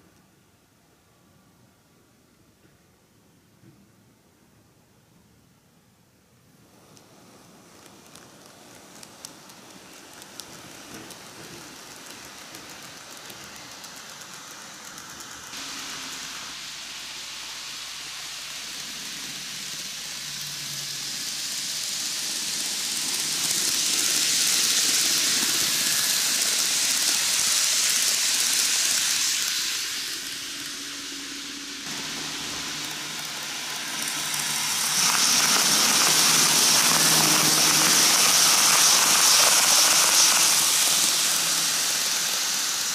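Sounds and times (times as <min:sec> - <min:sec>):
model train wheels rolling on rails: 0:06.4 - 0:42.9.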